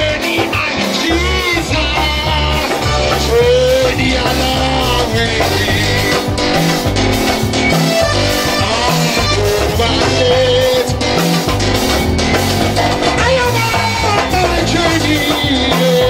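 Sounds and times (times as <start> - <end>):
person singing: 0.0 - 11.4, 13.0 - 16.0
bass line: 0.0 - 16.0
drums: 0.0 - 16.0
electric guitar: 0.0 - 16.0.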